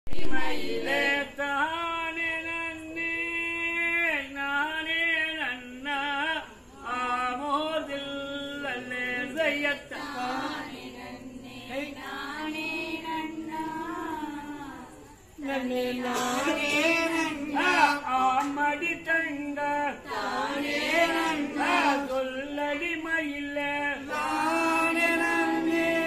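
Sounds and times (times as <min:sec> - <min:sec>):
person singing unaccompanied: 0:00.1 - 0:26.0.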